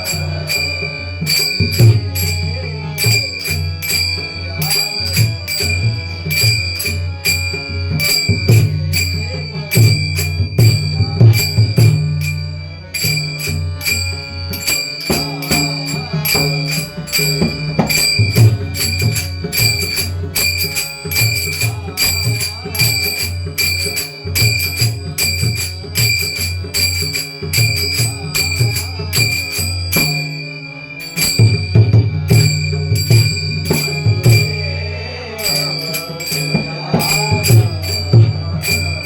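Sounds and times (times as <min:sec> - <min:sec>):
hand cymbals struck: 0:00.0 - 0:39.0.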